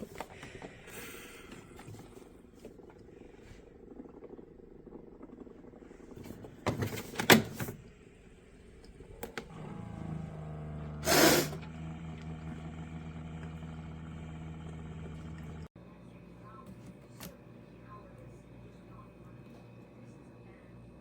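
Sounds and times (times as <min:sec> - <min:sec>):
coffee maker humming: 0:00.0 - 0:21.0.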